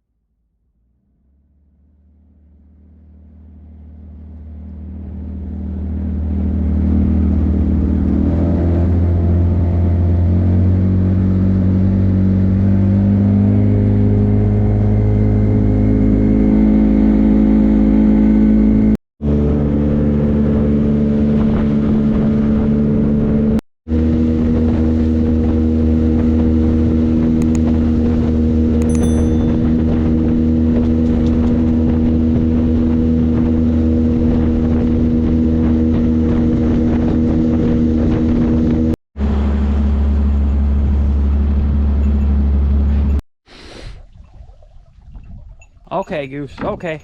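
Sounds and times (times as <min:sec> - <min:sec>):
vehicle engine running: 0:00.7 - 0:43.2.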